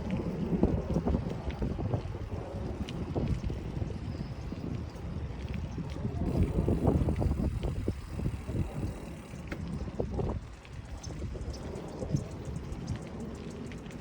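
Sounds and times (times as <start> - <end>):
bicycle road rumble: 0.0 - 14.0
wind buffeting microphone: 0.0 - 14.0.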